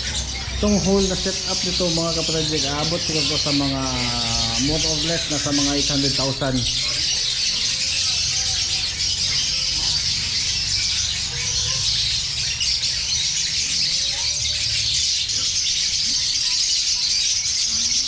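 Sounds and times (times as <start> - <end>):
lovebirds chattering and screeching: 0.0 - 18.0.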